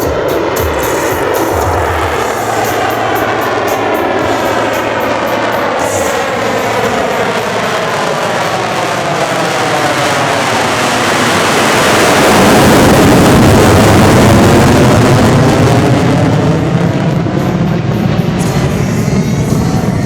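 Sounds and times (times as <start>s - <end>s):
fighter jet flying past: 0.0s - 20.0s.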